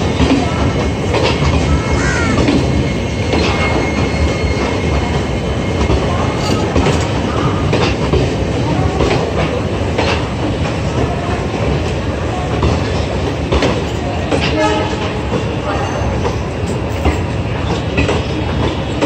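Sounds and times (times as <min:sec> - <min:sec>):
train rumble: 0:00.0 - 0:19.0
train wheels clacking on rail joints: 0:00.0 - 0:19.0.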